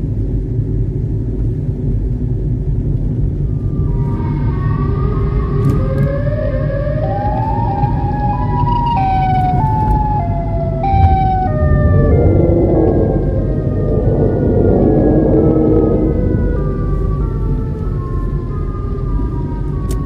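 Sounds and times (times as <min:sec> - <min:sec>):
car road noise rumble: 0:00.0 - 0:20.0
eerie siren-like wail: 0:03.2 - 0:20.0.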